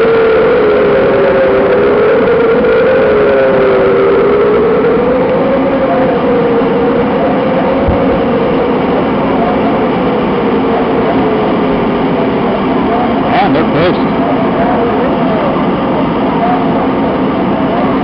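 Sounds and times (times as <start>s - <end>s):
warning siren wailing: 0.0s - 18.0s.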